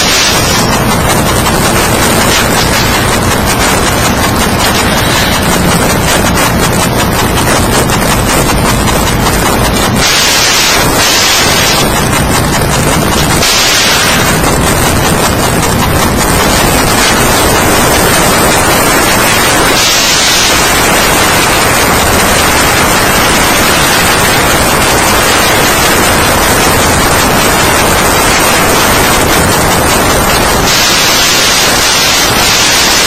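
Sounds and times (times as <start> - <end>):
static hiss: 0.0 - 33.0.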